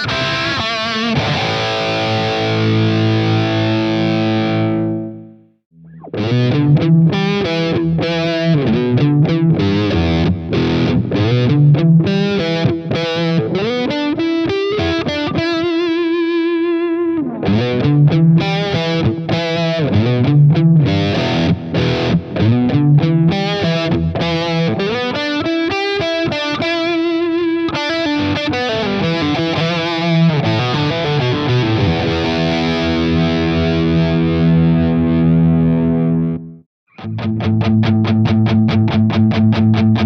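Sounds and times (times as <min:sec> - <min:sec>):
distorted electric guitar: 0:00.0 - 0:40.0.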